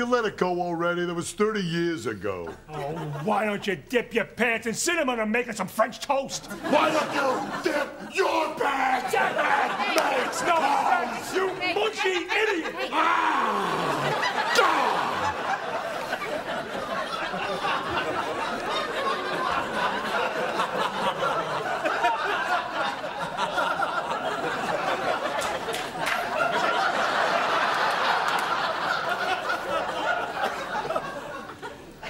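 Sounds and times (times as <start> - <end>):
crowd laughter: 2.4 - 3.6, 6.4 - 32.0.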